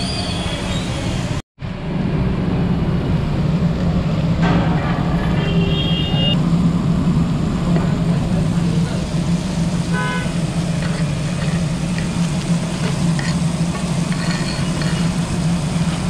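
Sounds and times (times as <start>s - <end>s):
busy road traffic rumble: 0.0s - 16.0s.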